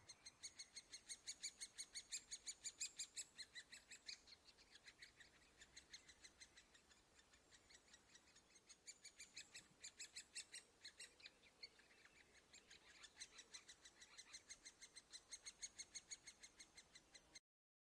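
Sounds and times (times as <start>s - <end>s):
nestlings begging calls: 0.0s - 17.4s.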